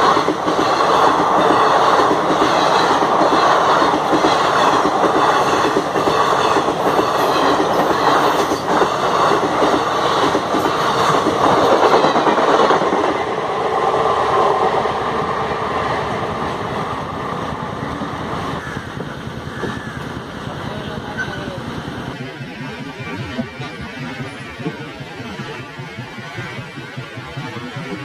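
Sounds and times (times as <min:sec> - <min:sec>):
train wheels rumbling and rattling: 0:00.0 - 0:28.0.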